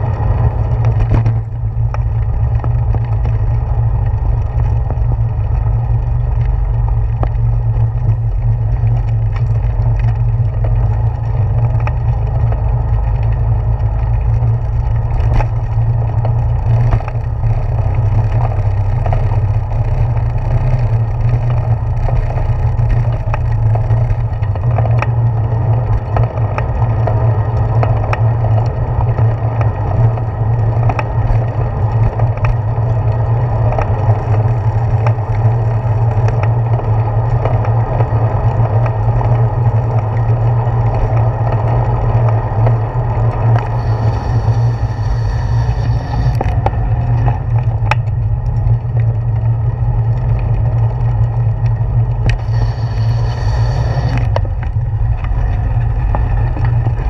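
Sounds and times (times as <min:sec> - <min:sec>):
bicycle tyres on wooden boardwalk: 0:00.0 - 0:57.0.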